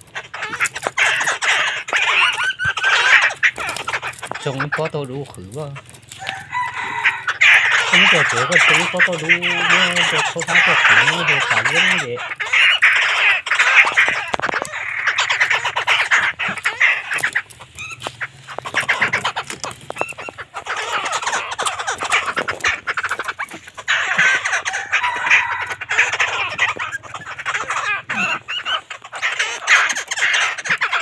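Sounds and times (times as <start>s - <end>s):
birds squawking: 0.0s - 31.0s.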